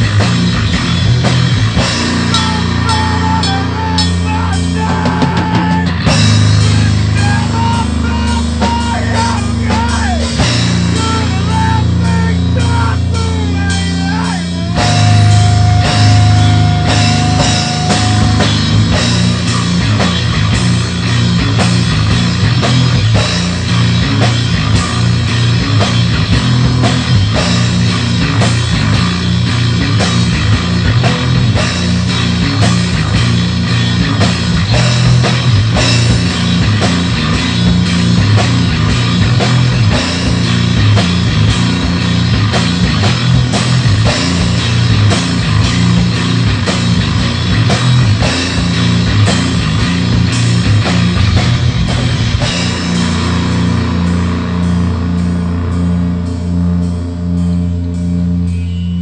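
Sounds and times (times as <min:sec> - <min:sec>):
bending guitar melody: 0:00.0 - 0:59.0
driving drumming: 0:00.0 - 0:59.0
heavy rock song: 0:00.0 - 0:59.0.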